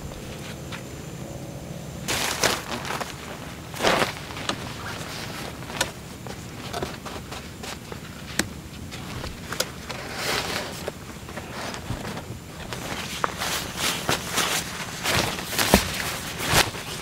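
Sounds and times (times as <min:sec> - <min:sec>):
tent fabric rustling: 0:00.0 - 0:17.0
tent poles clicking: 0:02.1 - 0:17.0.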